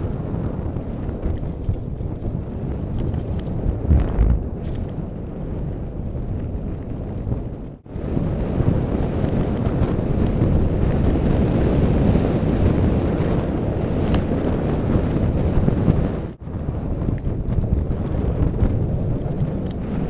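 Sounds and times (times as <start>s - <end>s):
bike rattling over dirt trail: 0.0s - 20.0s
wind buffeting microphone: 0.0s - 20.0s.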